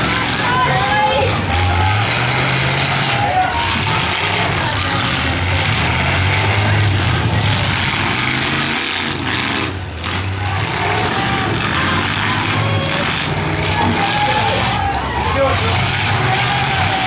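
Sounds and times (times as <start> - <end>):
car engines revving loudly: 0.0 - 17.0.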